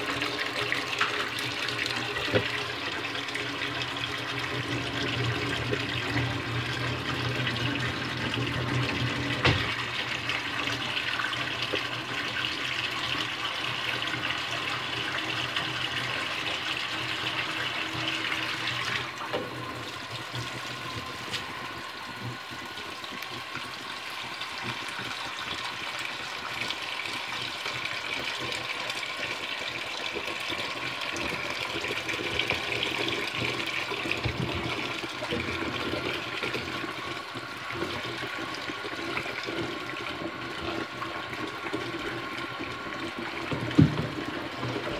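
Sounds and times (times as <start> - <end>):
food rinsed by hand: 0.0 - 44.9
tap water running into colander: 0.0 - 44.9.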